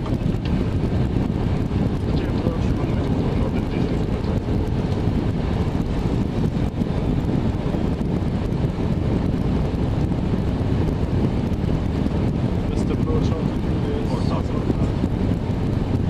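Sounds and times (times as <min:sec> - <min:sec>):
airflow and engine rumble: 0:00.0 - 0:16.0.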